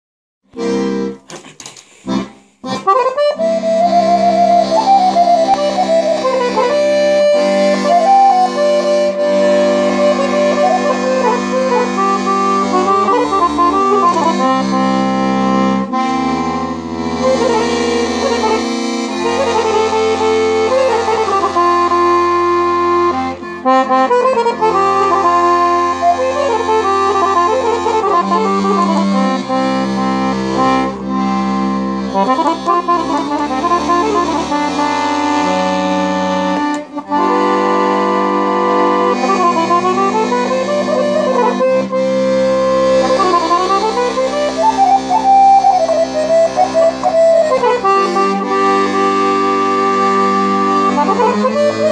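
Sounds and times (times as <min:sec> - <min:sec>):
solo piano accordion folk tune: 0:00.5 - 0:01.3, 0:02.0 - 0:51.9.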